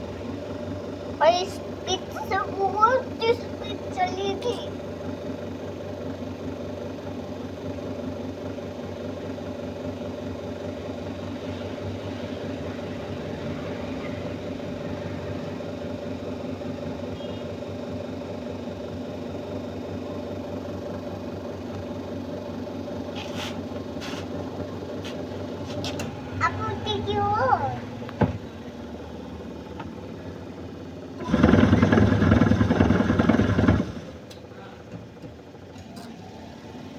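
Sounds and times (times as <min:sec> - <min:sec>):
washing machine motor hum: 0:00.0 - 0:36.9.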